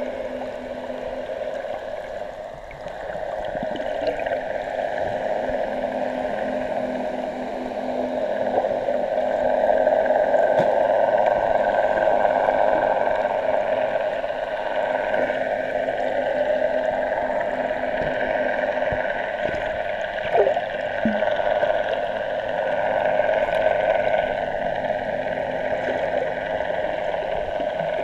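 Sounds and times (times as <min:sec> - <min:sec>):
churning water and bubbles: 0:00.0 - 0:28.0
outboard motor underwater hum: 0:00.0 - 0:28.0.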